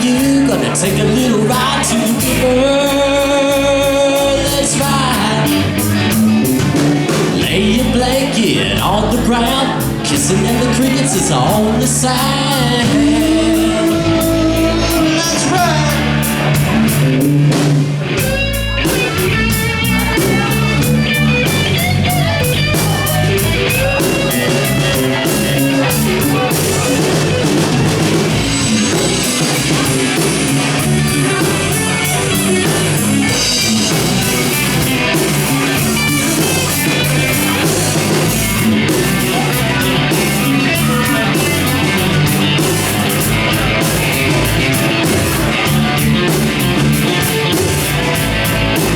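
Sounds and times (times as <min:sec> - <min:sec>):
bass guitar: 0:00.0 - 0:48.9
drum kit beat: 0:00.0 - 0:48.9
lead guitar bending notes: 0:00.0 - 0:48.9.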